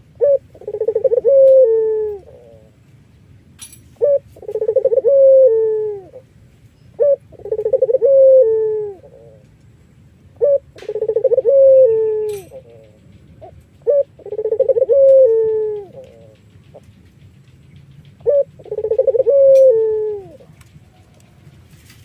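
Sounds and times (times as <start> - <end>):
dove cooing: 0.0 - 2.8, 4.0 - 6.3, 6.9 - 9.6, 10.3 - 22.0.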